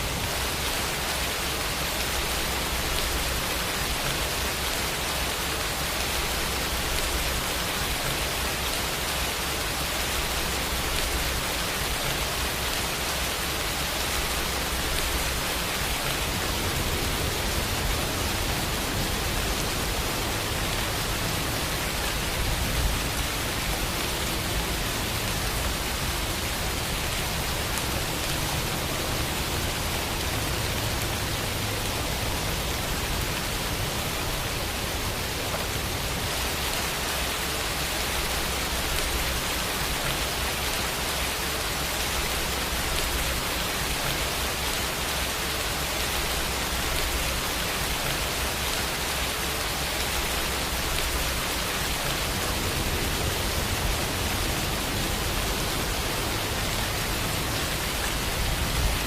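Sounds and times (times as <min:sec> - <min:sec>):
dense rain hissing: 0:00.0 - 0:59.0.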